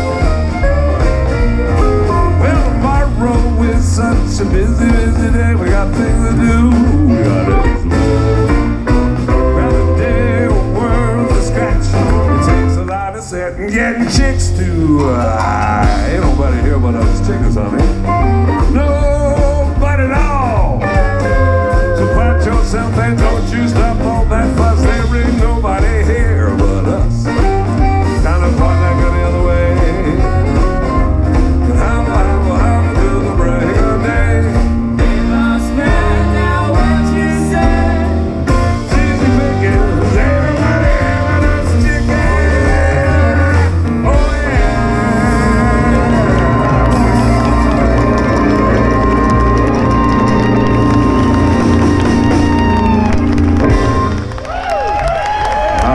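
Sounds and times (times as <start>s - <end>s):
band playing through a pa: 0.0s - 55.9s.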